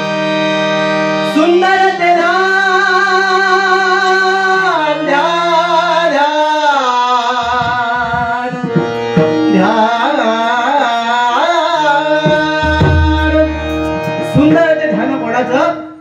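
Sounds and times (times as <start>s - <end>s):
harmonium tones: 0.0s - 16.0s
person singing melodic phrases: 1.2s - 15.2s.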